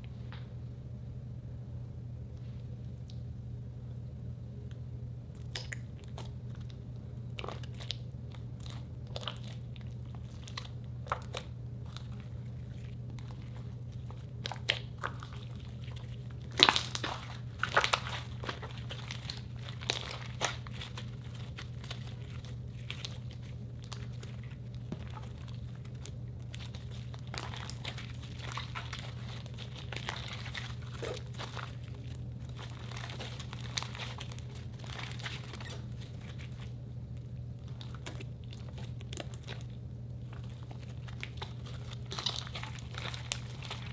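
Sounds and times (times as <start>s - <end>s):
faint low hum: 0.0s - 43.9s
slime squishing and popping: 5.4s - 43.9s.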